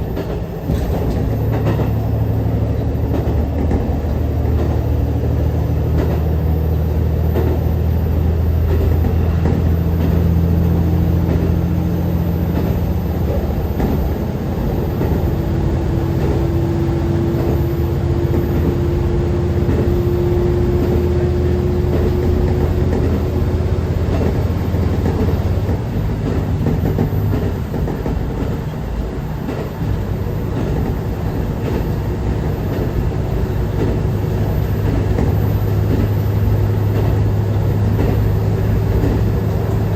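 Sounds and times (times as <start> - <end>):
railcar engine humming: 0.0 - 39.9
wheels rumbling on rail: 0.0 - 39.9.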